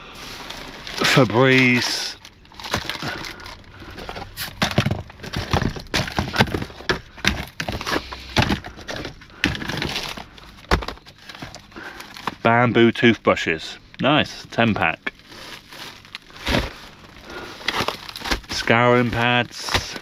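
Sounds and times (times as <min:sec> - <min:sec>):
packaging rustling: 0:00.0 - 0:12.5, 0:14.8 - 0:20.0.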